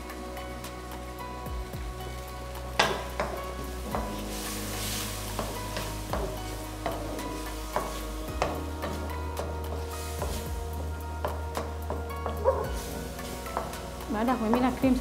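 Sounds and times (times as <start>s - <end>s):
food sizzling: 0.0s - 15.0s
wooden spatula scraping a wok: 2.7s - 15.0s.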